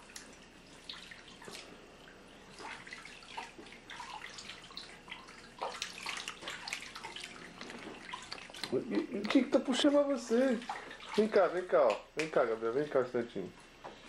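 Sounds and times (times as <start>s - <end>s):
water splashing in a bathtub: 0.0s - 13.7s.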